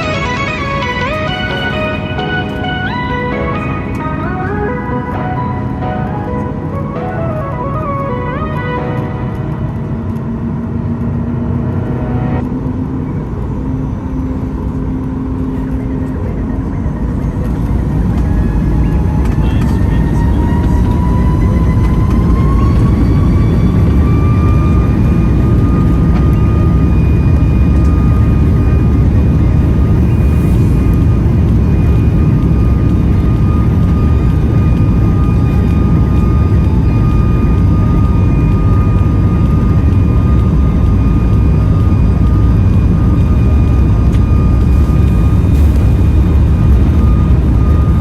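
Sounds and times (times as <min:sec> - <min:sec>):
high engine whine: 0:00.0 - 0:48.0
jet engine roar in cabin: 0:00.0 - 0:48.0.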